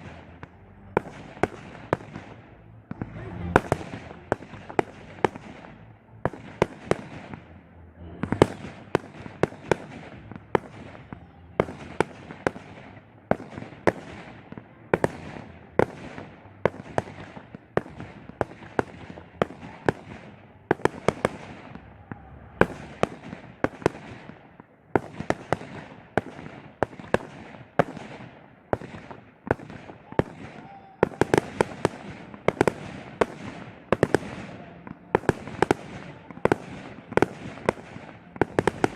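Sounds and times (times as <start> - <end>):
fireworks bursting: 0.0 - 38.9
fireworks crackling: 0.0 - 38.9.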